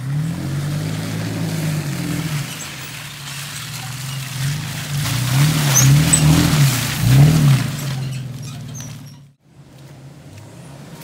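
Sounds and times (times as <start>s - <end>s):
truck engine revving: 0.0s - 9.4s.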